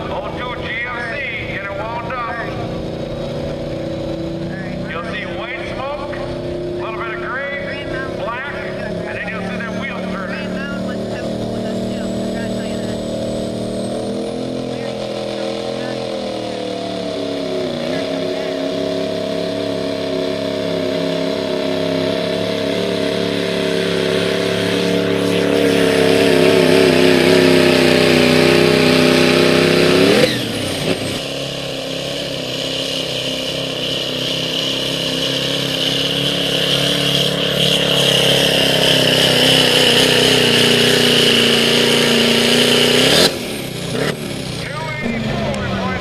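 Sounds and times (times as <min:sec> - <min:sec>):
diesel engines at full throttle: 0:00.0 - 0:46.0.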